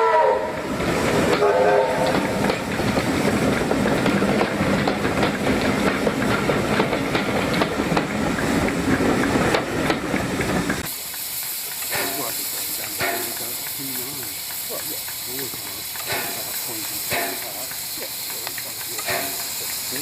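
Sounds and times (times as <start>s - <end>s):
steam hiss: 0.0s - 20.0s
wheels clattering over rail joints: 0.6s - 20.0s.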